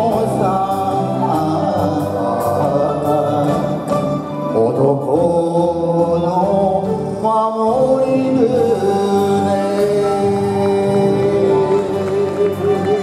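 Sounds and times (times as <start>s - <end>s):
man singing into a microphone: 0.0s - 13.0s
orchestral backing track: 0.0s - 13.0s.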